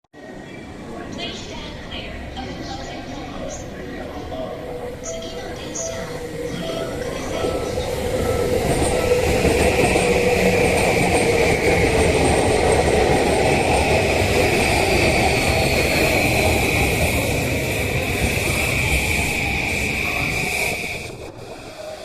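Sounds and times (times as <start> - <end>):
electric train running on track: 0.2 - 22.0.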